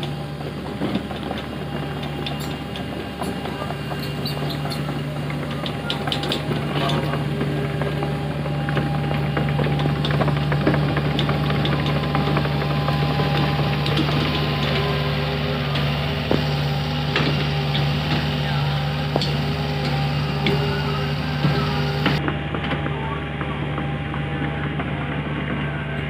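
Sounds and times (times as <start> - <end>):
clanks and squeaks of tracks: 0.0 - 26.0
excavator diesel engine running: 0.0 - 26.0
hydraulic whine: 0.0 - 26.0.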